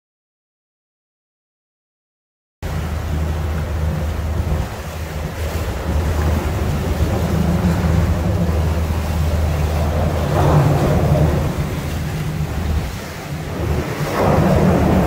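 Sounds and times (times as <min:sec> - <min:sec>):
boat engine drone: 0:02.6 - 0:15.0
water rushing past hull: 0:02.6 - 0:15.0
wind buffeting microphone: 0:02.6 - 0:15.0.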